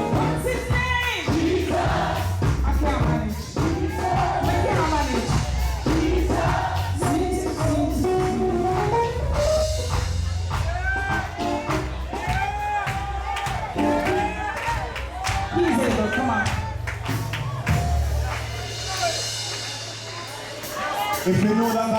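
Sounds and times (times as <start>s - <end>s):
gospel singers: 0.0s - 19.4s
band with bass and drums: 0.0s - 21.9s.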